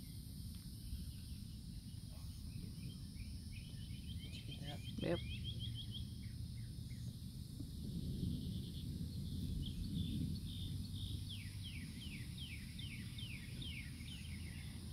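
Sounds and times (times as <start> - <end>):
faint bird chirps: 0.0 - 7.2, 8.0 - 14.9
steady low rumble: 0.0 - 14.9
songbird calling downward notes: 0.8 - 7.2, 8.3 - 14.9.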